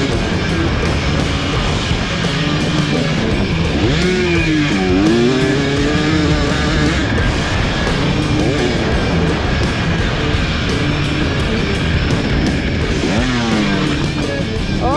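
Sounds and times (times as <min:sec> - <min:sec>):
dirt bike engine revving: 0:00.0 - 0:14.9
rock music with electric guitar: 0:00.0 - 0:14.9.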